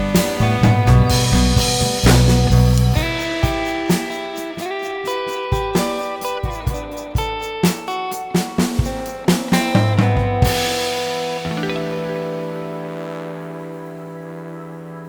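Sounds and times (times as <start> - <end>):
guitar instrumental with drums: 0.0 - 15.0.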